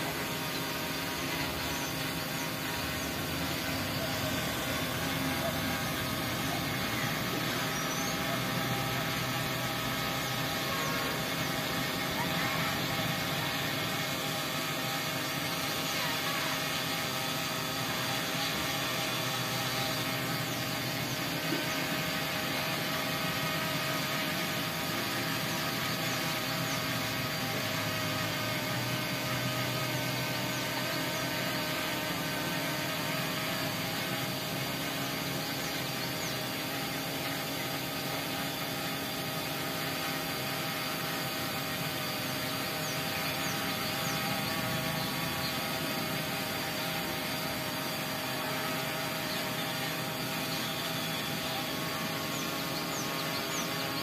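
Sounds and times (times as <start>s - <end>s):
drone motors whirring: 0.0s - 54.0s.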